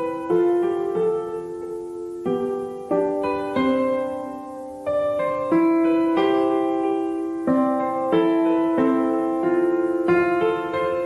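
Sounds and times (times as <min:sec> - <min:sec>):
piano chords ringing: 0:00.0 - 0:11.0.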